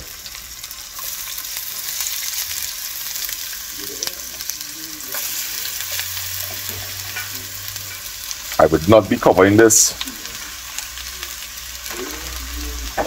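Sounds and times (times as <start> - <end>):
vegetable slices sizzling in oil: 0.0 - 13.0.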